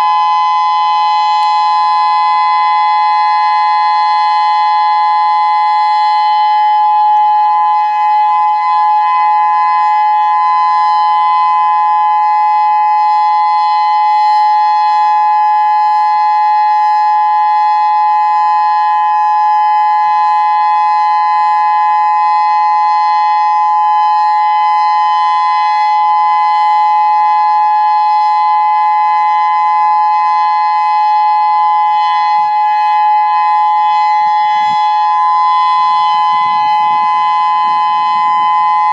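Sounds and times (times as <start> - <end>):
electronic warning siren: 0.0 - 38.9.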